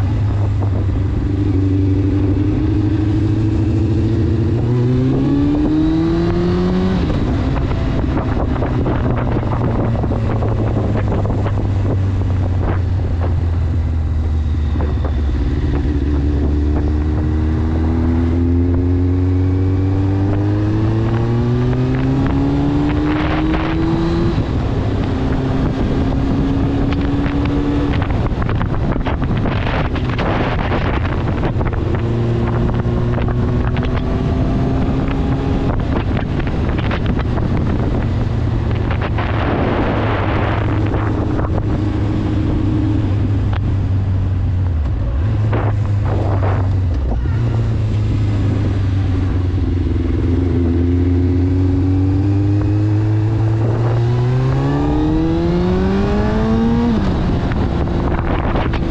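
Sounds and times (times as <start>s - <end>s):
motorcycle engine cruising: 0.0s - 58.9s
wind buffeting microphone: 0.0s - 58.9s.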